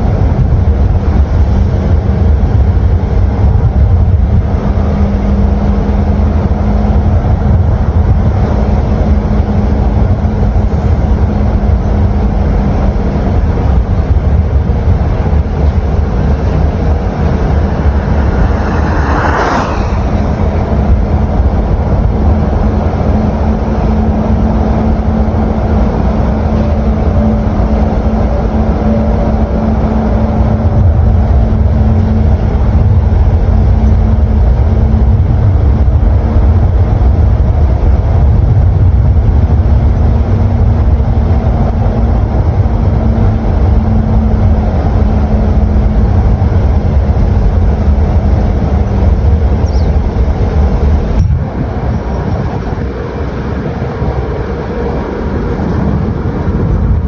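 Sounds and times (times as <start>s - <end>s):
constant low hum: 0.0s - 57.0s
vehicle low rumble: 0.0s - 57.0s.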